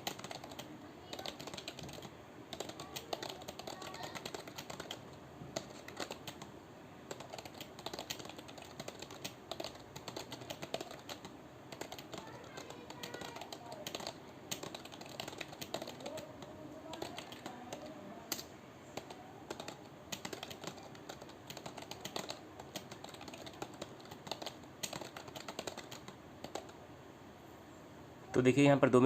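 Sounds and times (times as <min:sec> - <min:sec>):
typing on computer keyboard: 0:00.0 - 0:06.5, 0:07.1 - 0:26.8.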